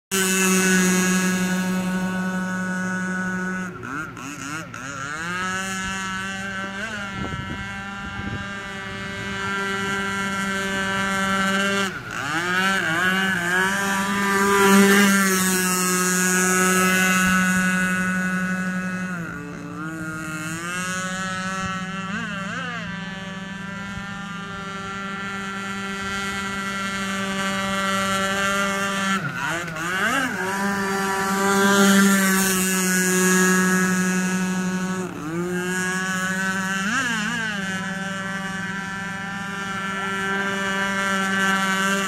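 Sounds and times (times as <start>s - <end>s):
model speedboat motor whining: 0.1s - 42.0s.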